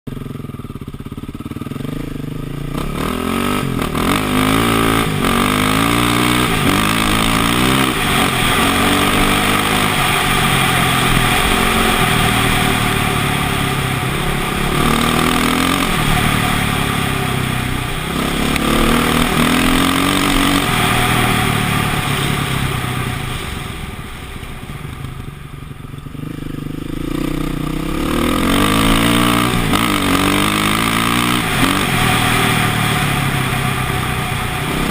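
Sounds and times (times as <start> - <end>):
motocross bike engine revving: 0.1 - 23.6, 26.0 - 34.9.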